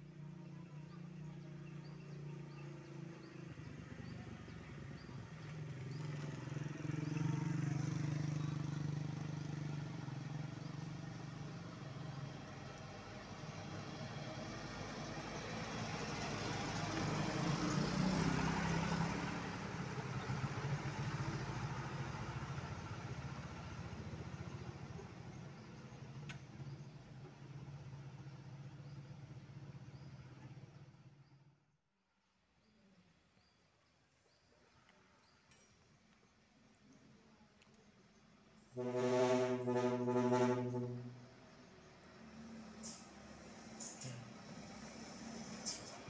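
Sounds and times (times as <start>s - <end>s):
motorcycle engines passing: 0.0s - 31.5s, 38.8s - 46.0s
diesel truck engine passing: 1.0s - 31.2s, 38.8s - 46.0s.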